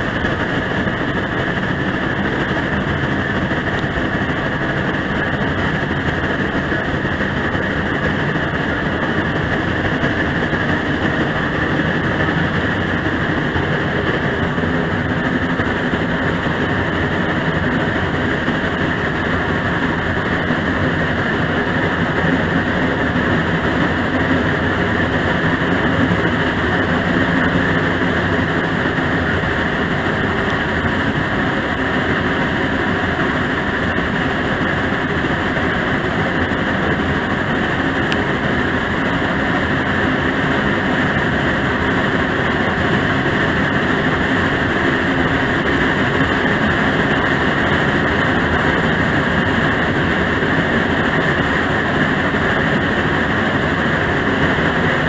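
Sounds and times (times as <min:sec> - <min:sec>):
train cars rumbling on track: 0:00.0 - 0:55.0.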